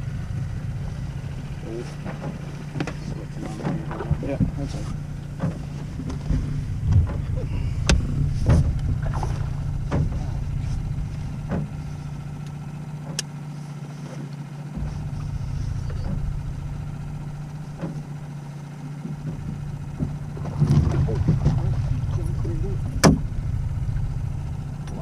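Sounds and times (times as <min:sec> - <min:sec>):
boat motor humming: 0:00.0 - 0:25.0
fishing gear knocking on boat: 0:02.0 - 0:13.2, 0:14.7 - 0:24.4.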